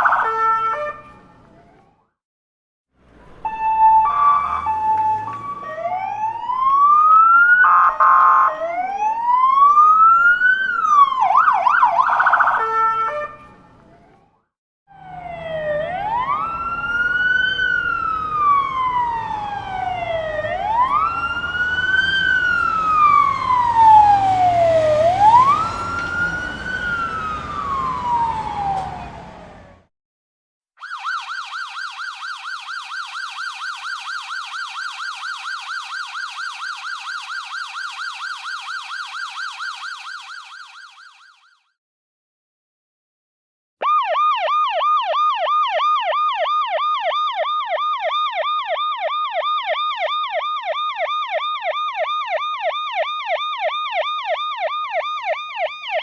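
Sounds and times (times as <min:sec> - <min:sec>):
police siren wailing: 0:00.0 - 0:02.0, 0:03.0 - 0:29.9, 0:30.8 - 0:41.8, 0:43.8 - 0:56.0
police siren yelp: 0:00.0 - 0:02.0, 0:03.0 - 0:29.9, 0:30.8 - 0:41.8, 0:43.8 - 0:56.0.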